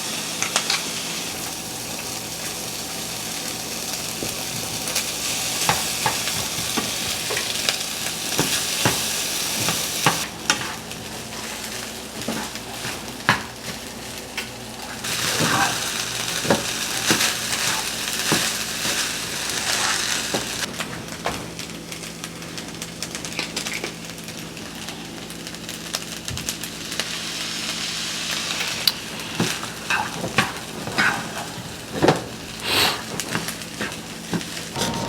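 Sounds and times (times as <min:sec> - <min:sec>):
food sizzling in a pan: 0:00.0 - 0:20.7, 0:21.5 - 0:35.0.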